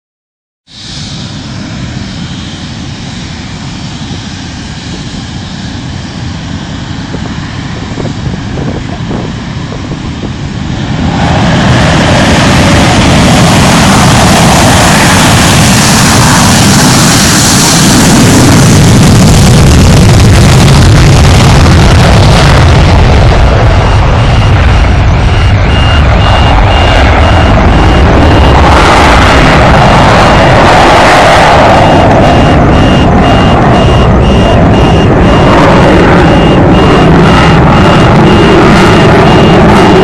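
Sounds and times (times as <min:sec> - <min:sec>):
jet afterburner roar: 0:00.7 - 0:40.0
jet engine whine and rumble: 0:00.7 - 0:40.0.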